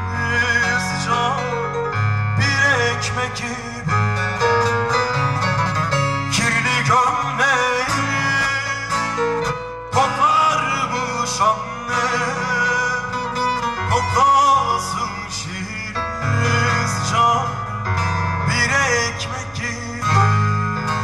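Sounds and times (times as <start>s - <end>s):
man singing: 0.0s - 4.9s, 6.1s - 21.0s
electronic keyboard backing: 0.0s - 21.0s
plucked long-necked lute: 0.2s - 21.0s.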